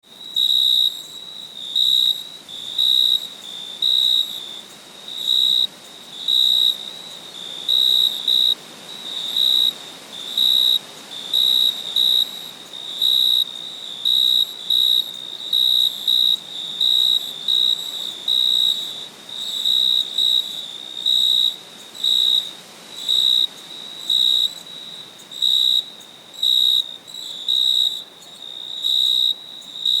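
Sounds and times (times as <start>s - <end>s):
crickets chirping: 0.0s - 30.0s
faint background hiss: 0.0s - 30.0s.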